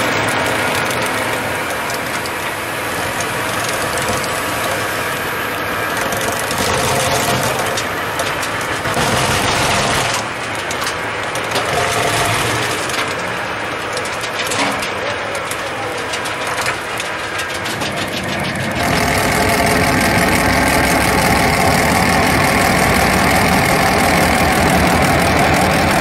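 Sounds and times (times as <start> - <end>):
mulcher grinding brush: 0.0 - 26.0
tractor engine under load: 0.0 - 26.0.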